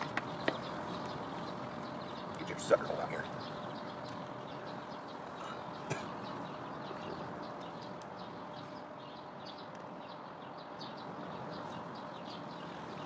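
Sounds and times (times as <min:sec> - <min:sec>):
bird chirping: 0:00.0 - 0:13.0
steady background noise: 0:00.0 - 0:13.0.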